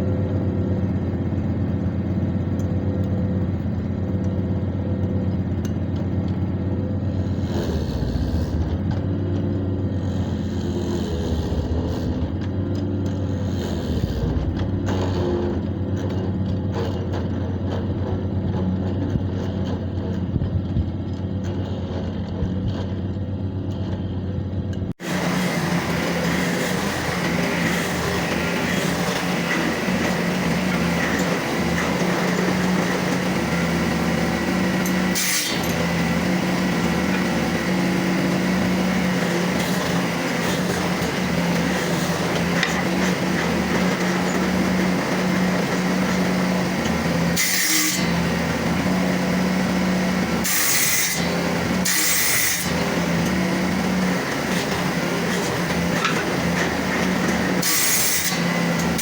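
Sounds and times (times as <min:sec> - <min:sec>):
power tool rasping wood: 0:06.3 - 0:20.8, 0:25.0 - 0:59.0.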